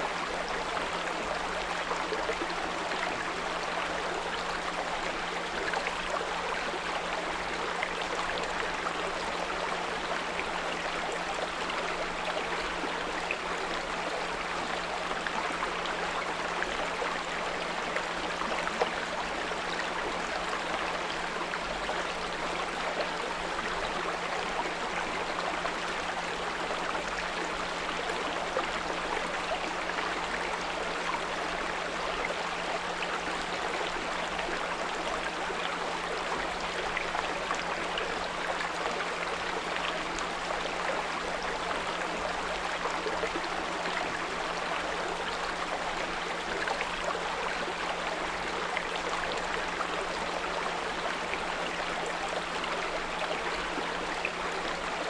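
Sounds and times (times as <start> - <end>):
brook water running: 0.0 - 55.0.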